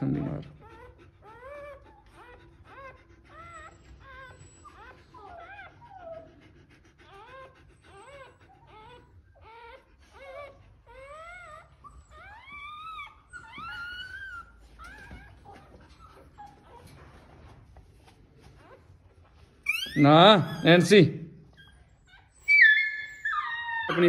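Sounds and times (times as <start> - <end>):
dog whining and whimpering: 0.0 - 20.9, 21.5 - 24.0.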